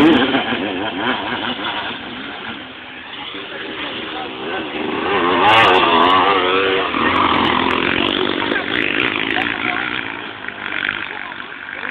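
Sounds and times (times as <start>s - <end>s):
motorbike engine revving past: 0.0s - 11.9s.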